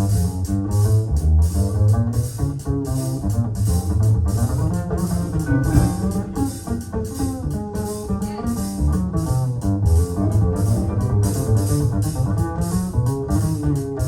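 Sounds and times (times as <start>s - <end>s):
instrumental music over speakers: 0.0s - 14.0s.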